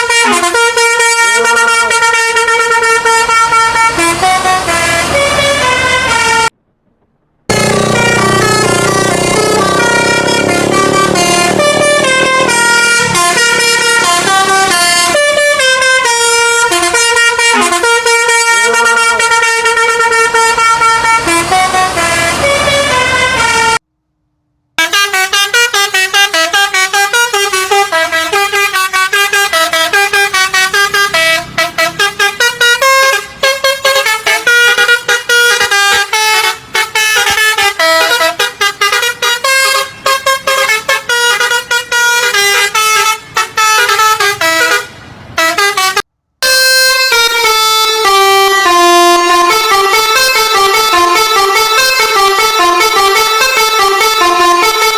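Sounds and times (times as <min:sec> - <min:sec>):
multi-tone air horn melody: 0:00.0 - 0:06.5, 0:07.5 - 0:23.8, 0:24.8 - 0:54.9.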